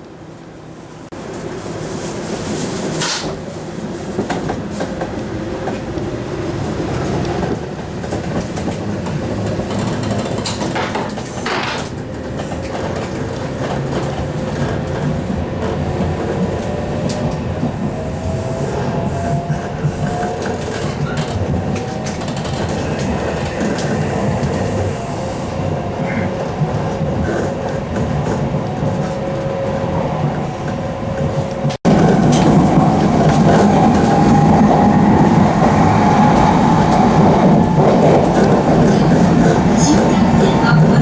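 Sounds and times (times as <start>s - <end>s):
rising train whine: 0.0s - 41.0s
train running gear rumble: 0.9s - 41.0s.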